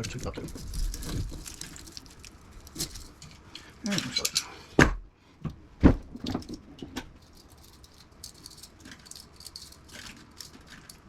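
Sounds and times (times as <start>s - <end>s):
scrap parts knocking and rattling: 0.0s - 4.5s, 5.9s - 11.0s.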